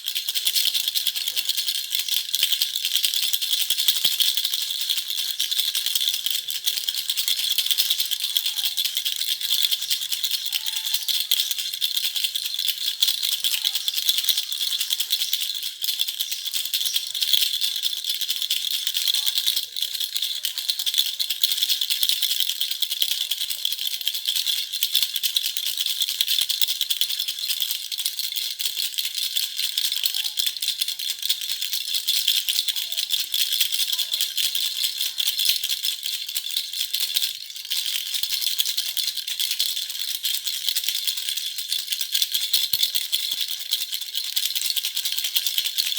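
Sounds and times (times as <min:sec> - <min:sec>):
toy rattle shaken: 0:00.0 - 0:45.9.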